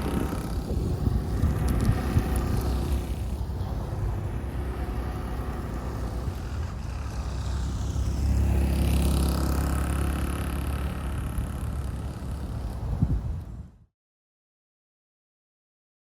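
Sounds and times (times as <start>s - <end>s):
small two-stroke engine running: 0.0s - 13.6s.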